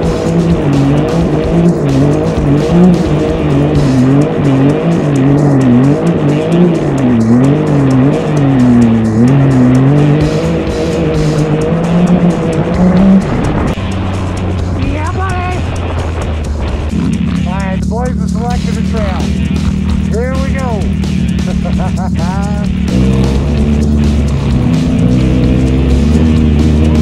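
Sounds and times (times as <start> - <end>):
engine revving: 0.0 - 27.0
tires spinning on loose dirt: 0.0 - 27.0.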